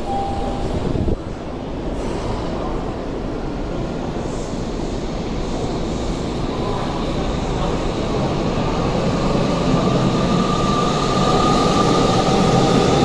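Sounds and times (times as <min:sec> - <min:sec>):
electric train running rumble: 0:00.0 - 0:13.0.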